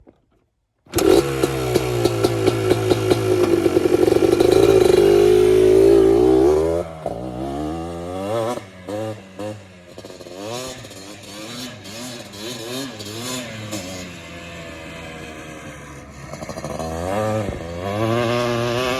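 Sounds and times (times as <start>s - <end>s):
quad bike engine revving: 0.9s - 18.9s.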